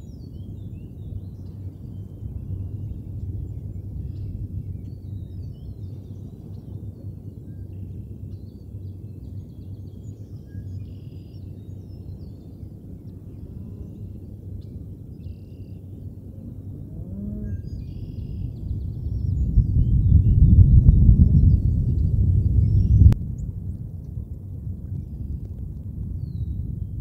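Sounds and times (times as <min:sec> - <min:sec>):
faint bird chirps: 0:00.0 - 0:23.2
low outdoor rumble: 0:00.0 - 0:27.0.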